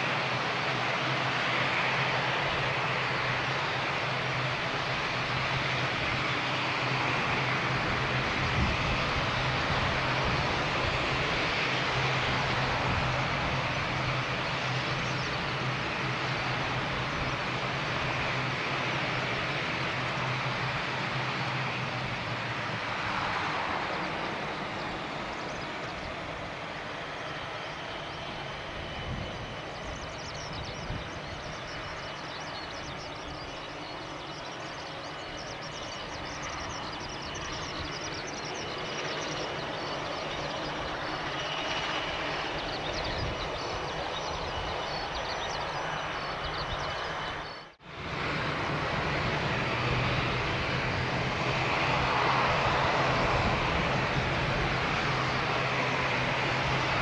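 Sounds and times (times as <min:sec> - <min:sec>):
aircraft engine starting: 0:00.0 - 0:57.0
turboprop noise and faint whine: 0:00.0 - 0:57.0.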